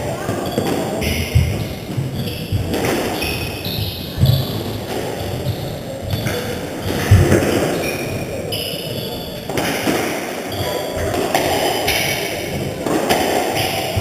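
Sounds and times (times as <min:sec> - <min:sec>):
shoes squeaking on wooden floor: 0:00.0 - 0:14.0
squash ball thudding on walls: 0:00.3 - 0:14.0.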